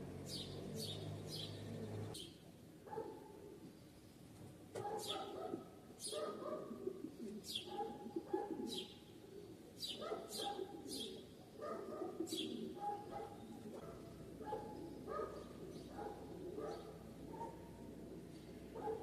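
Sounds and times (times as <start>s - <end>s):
birds chirping high: 0.0s - 19.0s.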